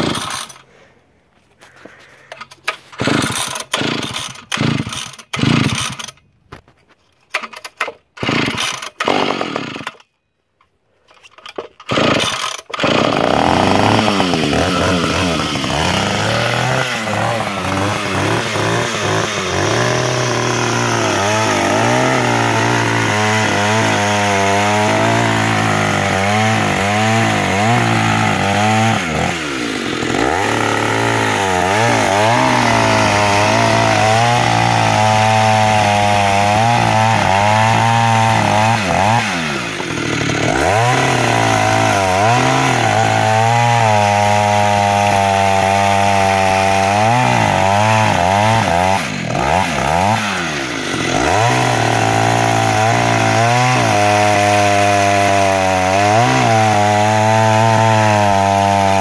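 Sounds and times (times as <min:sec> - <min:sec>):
chainsaw engine starting and revving: 0:00.0 - 0:00.9, 0:02.4 - 0:06.2, 0:07.4 - 0:10.0, 0:11.5 - 0:59.0.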